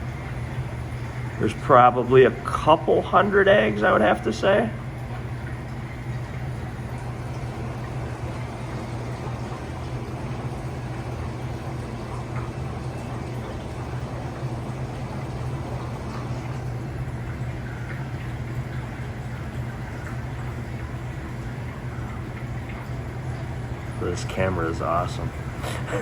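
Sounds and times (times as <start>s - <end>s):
aquarium equipment humming: 0.0s - 26.0s
water bubbling: 0.0s - 26.0s.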